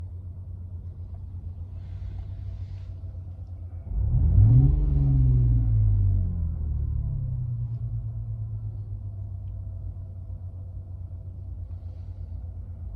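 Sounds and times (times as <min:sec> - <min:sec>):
synthesized engine idling and revving: 0:00.0 - 0:12.9.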